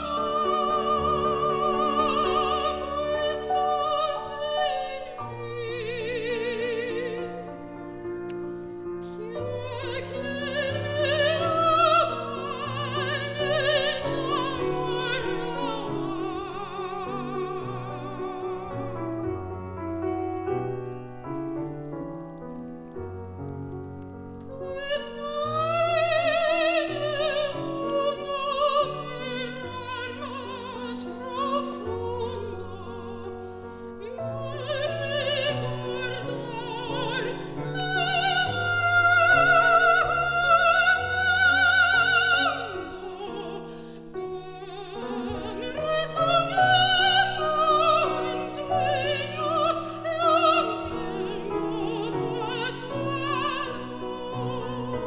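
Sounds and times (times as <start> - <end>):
soprano singing with vibrato: 0.0 - 21.8, 23.6 - 55.0
piano accompaniment: 0.0 - 55.0.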